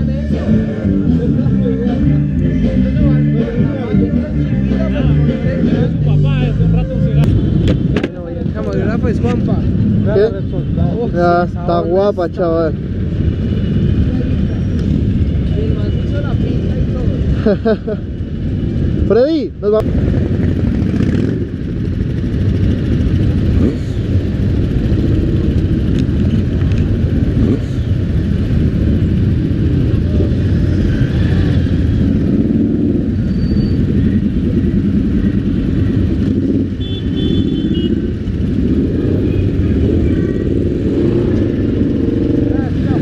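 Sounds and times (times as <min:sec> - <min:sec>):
motorcycle engines rumbling: 0:00.0 - 0:43.0.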